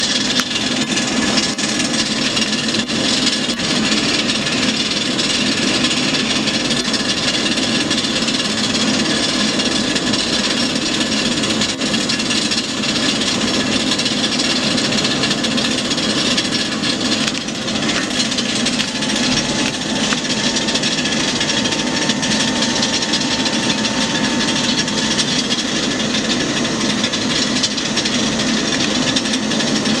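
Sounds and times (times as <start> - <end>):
jet engine rasping noise: 0.0 - 30.0.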